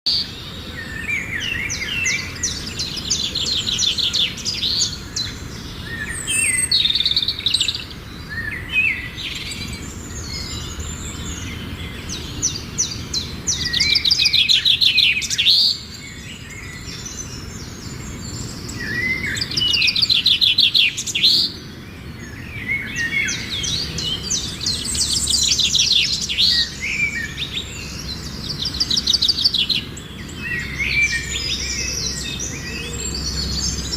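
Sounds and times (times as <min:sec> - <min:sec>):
bird chicks chirping: 0:00.2 - 0:33.9.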